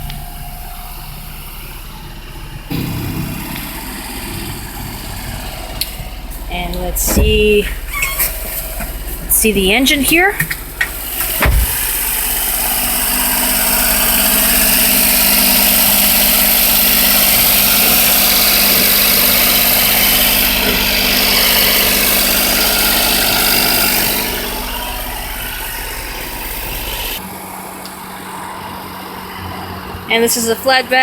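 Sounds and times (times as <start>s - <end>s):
small engine idling: 0.0s - 30.4s.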